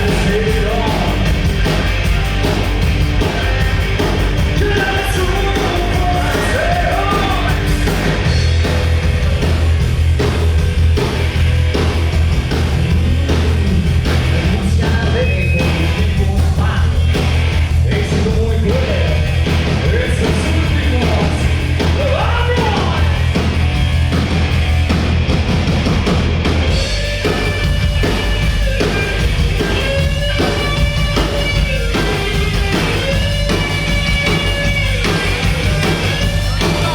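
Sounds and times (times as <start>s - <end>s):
drums: 0.0s - 36.9s
heavy bass line: 0.0s - 36.9s
live band music: 0.0s - 36.9s.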